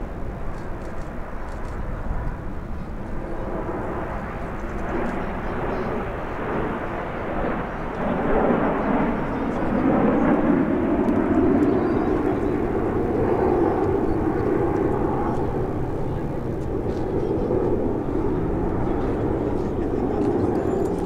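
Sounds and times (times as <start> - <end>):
jet aircraft passing overhead: 0.0 - 21.0.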